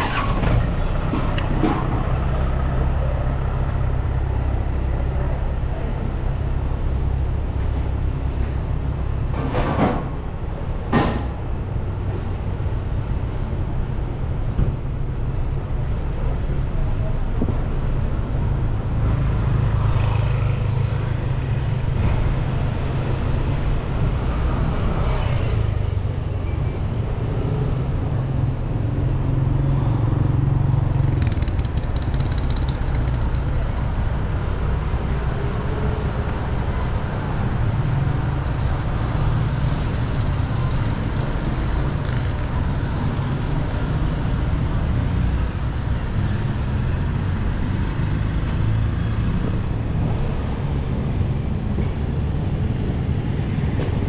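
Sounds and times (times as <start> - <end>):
street traffic rumble: 0.0 - 54.0.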